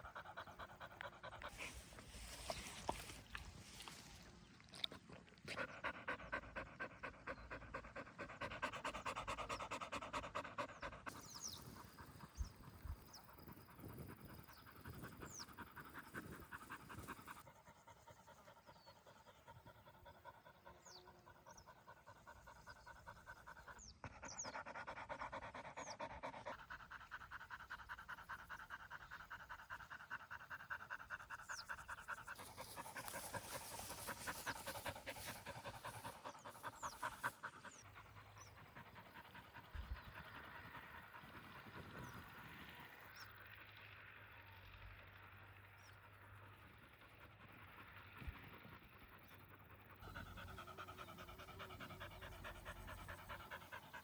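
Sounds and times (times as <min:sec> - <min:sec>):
dog panting: 0:00.0 - 0:04.1, 0:04.7 - 0:42.2, 0:48.2 - 0:54.0
small birds chirping: 0:00.0 - 0:42.3, 0:49.1 - 0:54.0.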